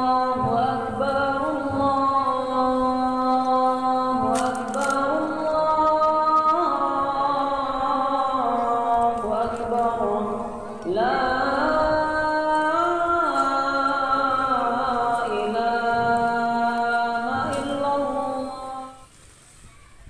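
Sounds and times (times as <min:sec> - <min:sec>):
person chanting long notes: 0:00.0 - 0:19.1.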